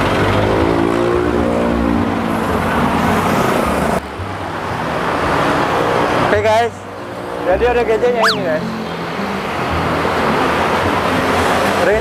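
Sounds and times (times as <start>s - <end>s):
road traffic: 0.0s - 7.6s, 8.2s - 11.9s.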